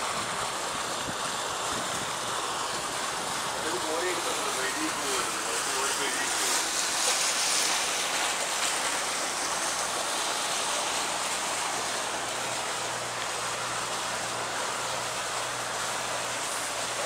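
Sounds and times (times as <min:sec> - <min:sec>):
water rushing along a hull: 0:00.0 - 0:17.0.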